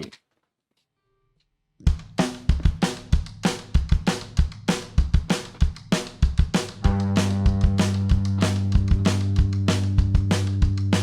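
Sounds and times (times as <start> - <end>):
steady drum beats: 1.8 - 11.0.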